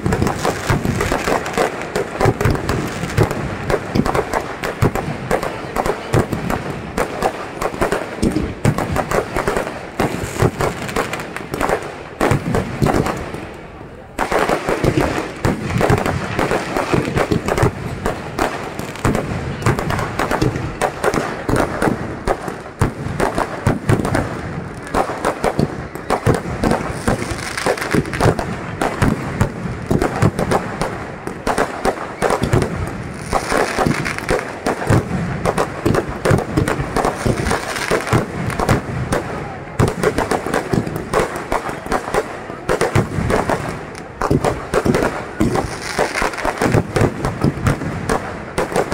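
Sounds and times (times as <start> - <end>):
fireworks bursting and crackling: 0.0 - 48.9.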